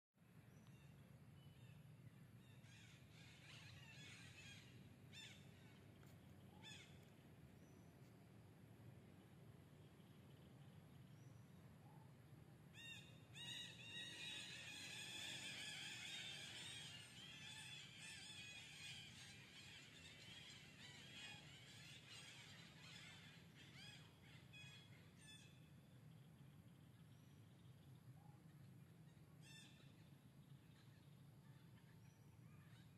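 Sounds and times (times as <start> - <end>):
low steady background hum: 0.2 - 32.9.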